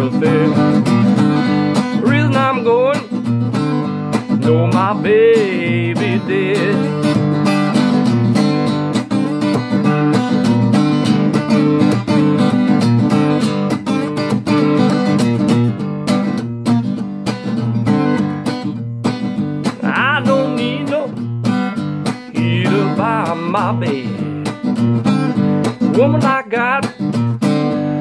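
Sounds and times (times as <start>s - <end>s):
acoustic guitar blues: 0.0s - 28.0s.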